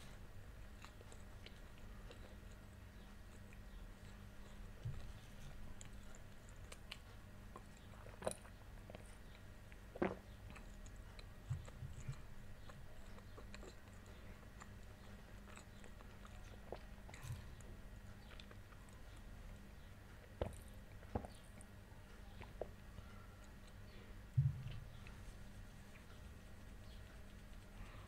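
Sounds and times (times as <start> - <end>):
soft low gulps: 0.0 - 26.1.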